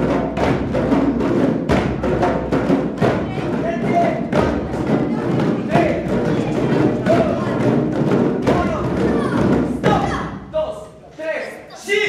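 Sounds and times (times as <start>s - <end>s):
hand drums playing fast rhythm: 0.0s - 10.5s.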